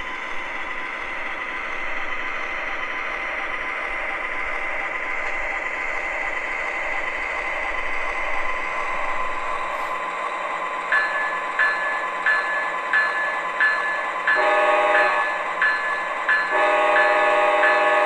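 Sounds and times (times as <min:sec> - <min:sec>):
model train rumble and whine: 0:00.0 - 0:18.0.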